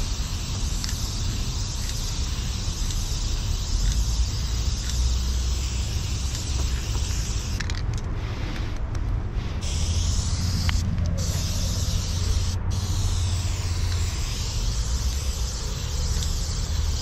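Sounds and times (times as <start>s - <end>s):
spray-paint can hissing: 0.0s - 7.8s, 9.6s - 17.0s.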